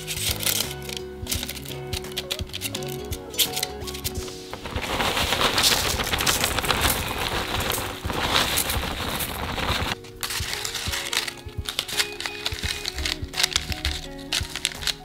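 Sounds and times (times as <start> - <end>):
crumbs rattling into a tin: 0.0 - 15.0
plastic bag crinkling: 0.0 - 15.0
soft background music: 0.0 - 15.0.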